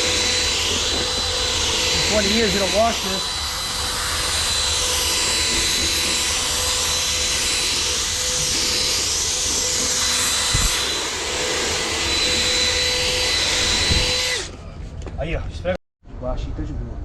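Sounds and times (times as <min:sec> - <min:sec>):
cleaning machine hissing: 0:00.0 - 0:14.4.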